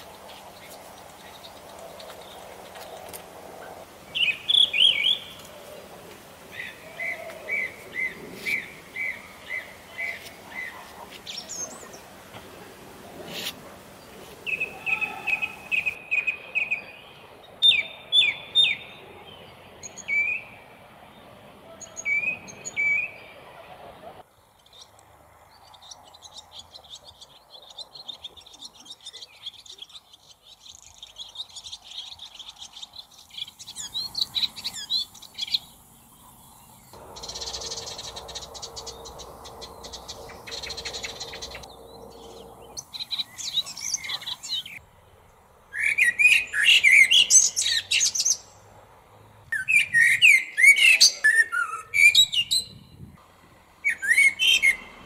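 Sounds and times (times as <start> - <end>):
bird chirping: 0.0 - 12.4, 13.2 - 44.8, 45.7 - 48.7, 49.5 - 53.1, 53.8 - 55.0.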